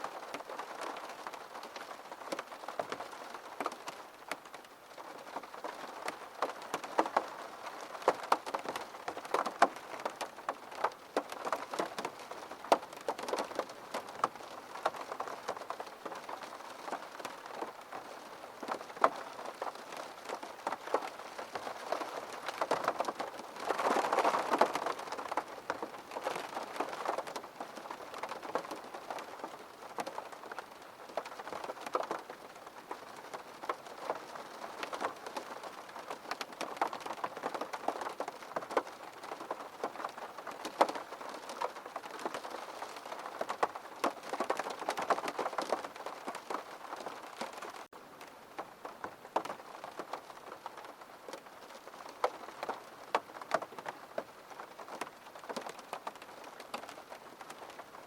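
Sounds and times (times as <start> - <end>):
rain drops ticking on glass: 0.0 - 58.0.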